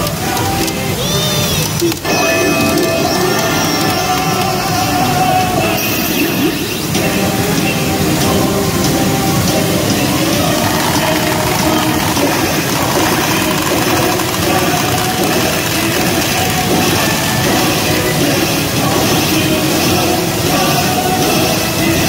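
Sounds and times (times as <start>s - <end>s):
pachinko machines clattering: 0.0s - 6.3s, 8.6s - 21.2s
faint machine tunes: 0.0s - 22.0s.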